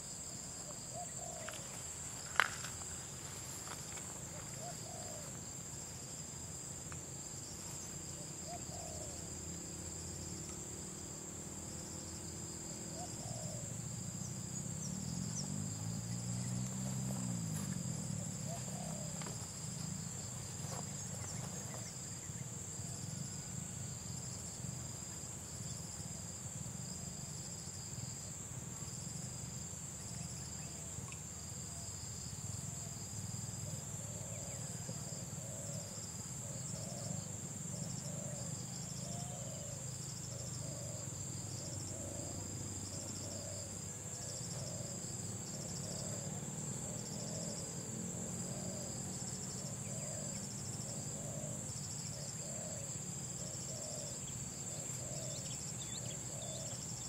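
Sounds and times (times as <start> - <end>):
pulsing insect call: 0.0 - 57.0.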